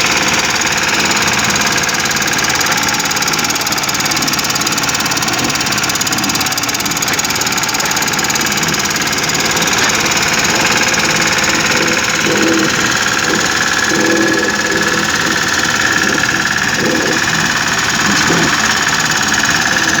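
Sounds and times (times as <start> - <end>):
high steady whine: 0.0 - 20.0
road roller engine running: 0.0 - 20.0.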